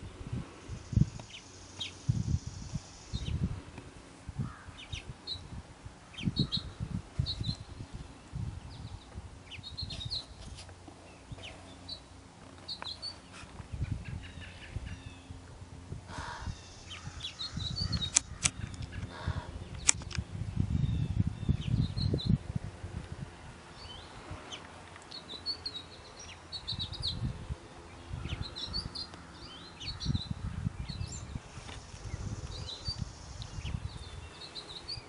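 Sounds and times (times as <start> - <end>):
wind rumble on microphone: 0.0 - 12.0, 12.7 - 35.0
songbirds chirping: 0.0 - 35.0.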